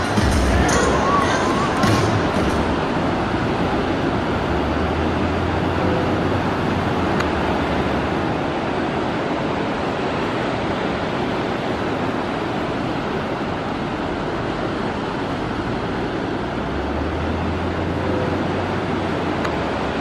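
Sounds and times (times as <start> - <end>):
ocean surf: 0.0 - 20.0.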